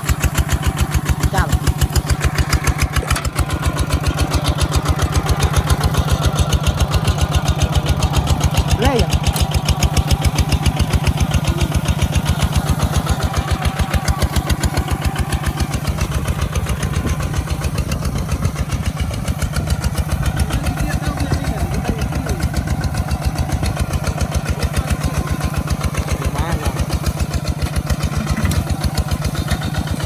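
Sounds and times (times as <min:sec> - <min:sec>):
diesel engine chugging: 0:00.0 - 0:30.0.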